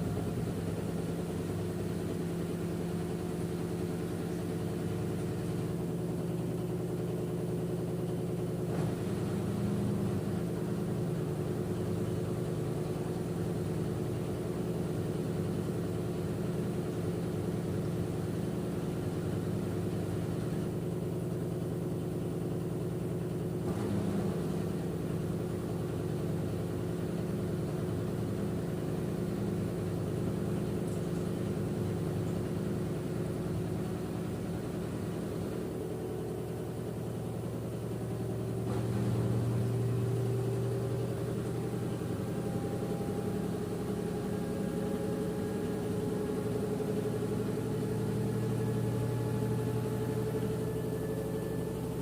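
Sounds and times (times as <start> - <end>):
washing machine spinning: 0.0 - 52.0.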